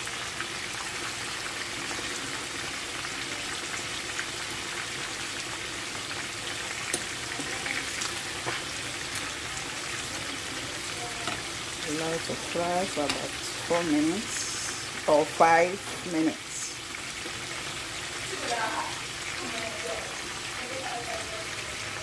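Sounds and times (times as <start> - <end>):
oil crackling and popping: 0.0 - 15.2, 16.4 - 21.2
meat sizzling in hot oil: 0.0 - 22.0.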